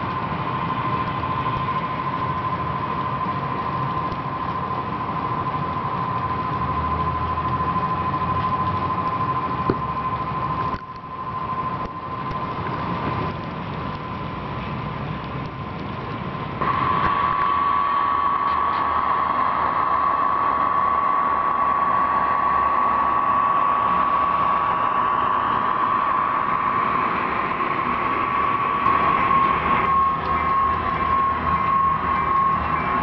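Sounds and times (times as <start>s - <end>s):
model locomotive whine: 0.0s - 33.0s.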